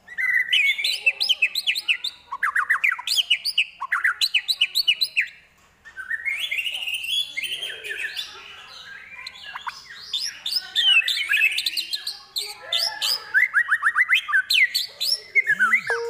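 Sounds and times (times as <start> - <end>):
songbird singing whistles: 0.0 - 8.2, 8.8 - 16.0.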